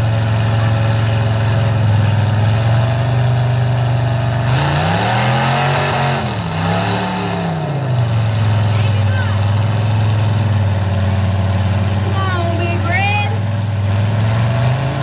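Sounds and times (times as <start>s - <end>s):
truck engines revving under load: 0.0s - 15.0s.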